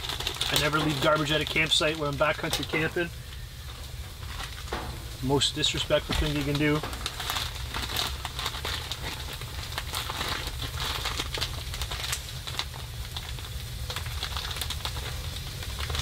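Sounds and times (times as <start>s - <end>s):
plastic bag crinkling: 0.0s - 16.0s
steady low rumble: 0.0s - 16.0s.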